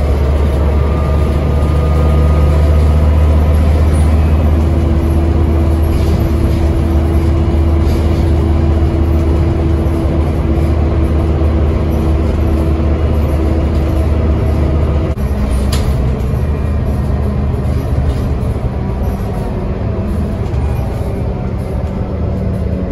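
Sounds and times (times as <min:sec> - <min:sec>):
bus diesel engine drone: 0:00.0 - 0:22.9
engine whine: 0:00.0 - 0:22.9
road noise: 0:00.0 - 0:22.9.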